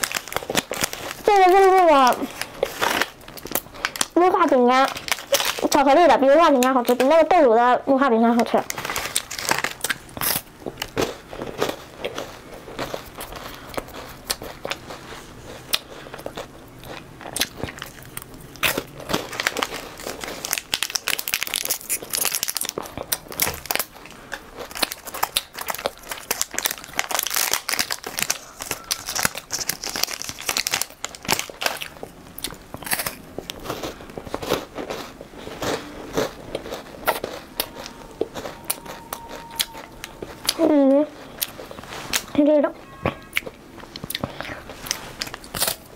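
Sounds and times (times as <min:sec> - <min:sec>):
crunching and chewing: 0:00.0 - 0:07.4, 0:08.4 - 0:42.4, 0:43.0 - 0:45.9
plastic wrapper crinkling: 0:00.0 - 0:07.5, 0:08.3 - 0:15.0, 0:17.4 - 0:42.4.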